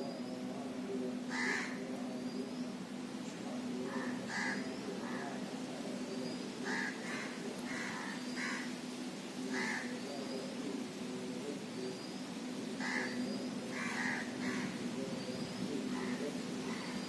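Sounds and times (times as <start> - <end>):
birds harsh calls: 0.0 - 17.0
steady low hum: 0.0 - 17.0.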